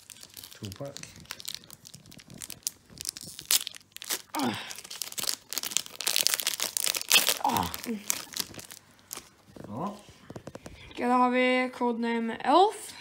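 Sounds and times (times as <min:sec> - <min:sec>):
foil wrapper crackling: 0:00.0 - 0:10.9.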